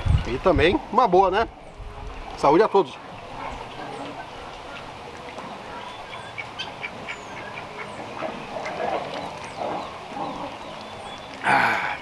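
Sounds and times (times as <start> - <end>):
small birds chirping: 1.6 - 12.0.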